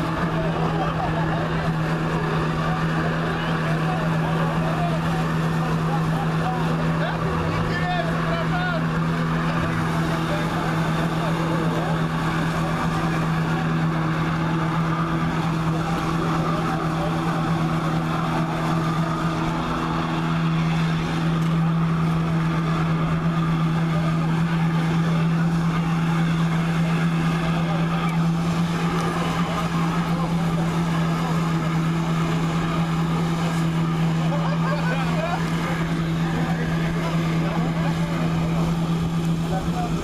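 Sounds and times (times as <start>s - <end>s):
jet ski engine running hard: 0.0s - 40.0s.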